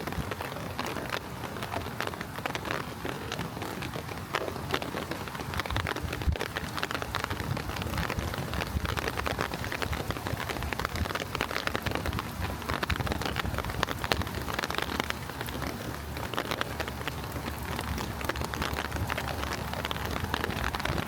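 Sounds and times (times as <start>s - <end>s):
rain hiss: 0.0s - 21.0s
raindrops hitting hard surfaces: 0.0s - 21.0s.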